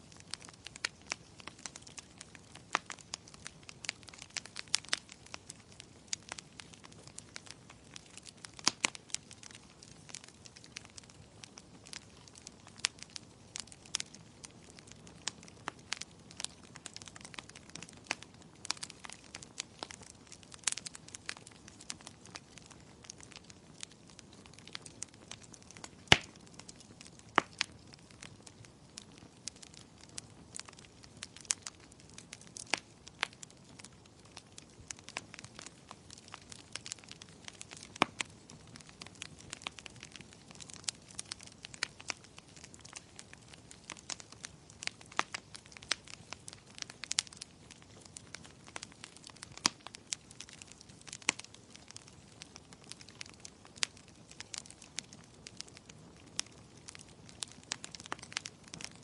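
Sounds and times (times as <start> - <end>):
faint steady rain: 0.0 - 59.0
wood fire crackling and popping: 0.0 - 59.0.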